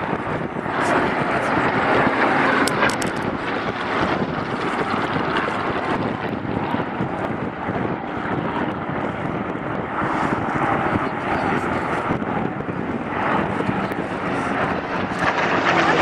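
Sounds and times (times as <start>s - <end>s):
propeller planes droning: 0.0s - 16.0s
wind buffeting microphone: 0.0s - 16.0s.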